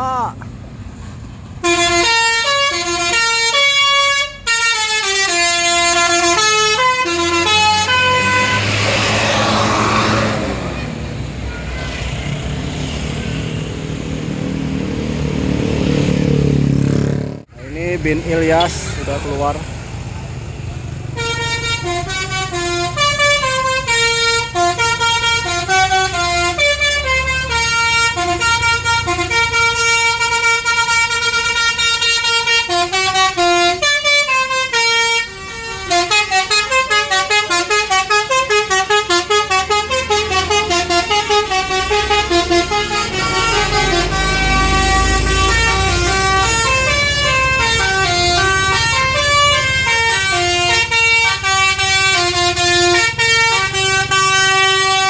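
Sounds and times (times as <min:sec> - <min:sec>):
bus musical horn melody: 0:01.5 - 0:14.0, 0:21.1 - 0:55.0.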